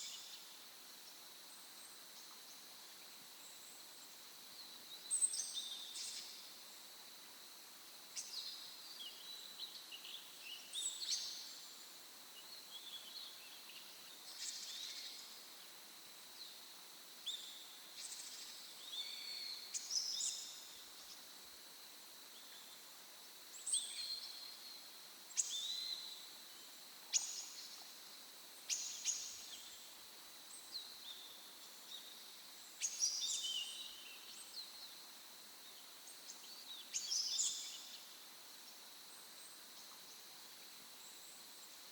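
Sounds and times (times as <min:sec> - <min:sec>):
faint steady hiss: 0:00.0 - 0:41.9.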